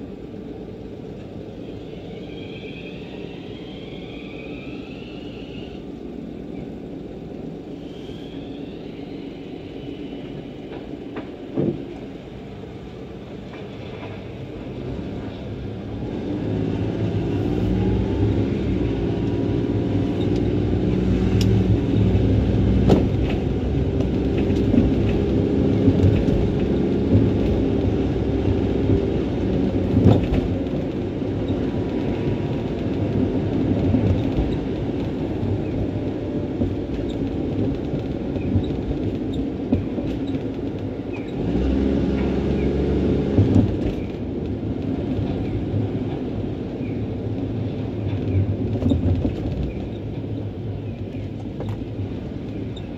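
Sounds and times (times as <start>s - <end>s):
road traffic rumble: 0.0s - 52.9s
tram: 0.0s - 52.9s.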